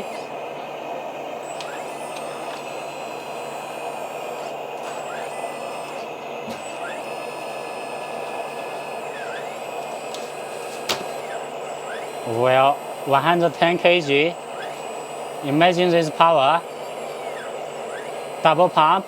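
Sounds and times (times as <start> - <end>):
electric hydraulic pumps whirring: 0.0 - 19.0.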